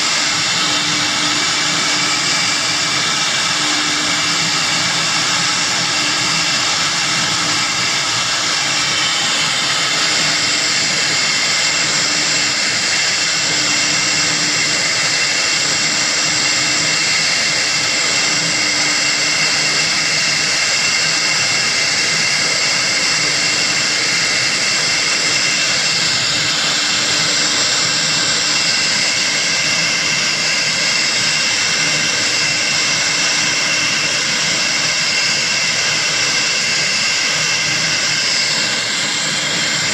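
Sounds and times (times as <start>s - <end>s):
hiss of cutting: 0.0s - 39.9s
router spindle high whine: 0.0s - 39.9s.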